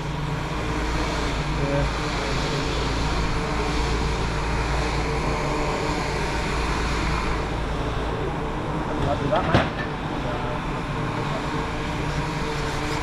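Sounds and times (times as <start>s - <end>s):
workshop machinery droning: 0.0s - 13.0s.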